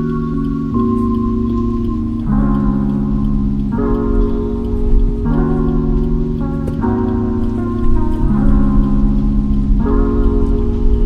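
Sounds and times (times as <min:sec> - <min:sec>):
organ-like keyboard chords: 0:00.0 - 0:11.0.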